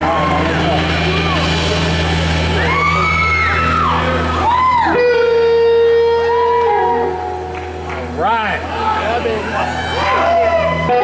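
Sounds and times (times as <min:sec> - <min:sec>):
low drone: 0:00.0 - 0:10.2
electric slide guitar: 0:00.0 - 0:11.0.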